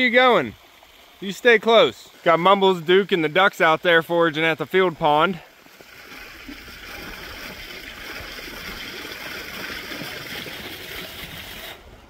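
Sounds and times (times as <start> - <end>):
water jet splashing: 0.0 - 12.0.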